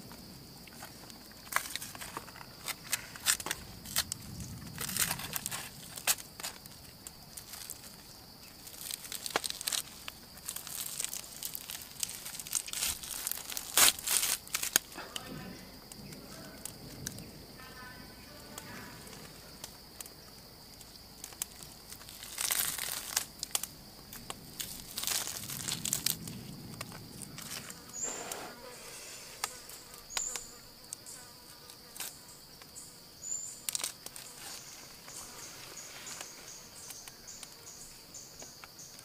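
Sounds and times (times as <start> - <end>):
insects buzzing: 0.0 - 39.0.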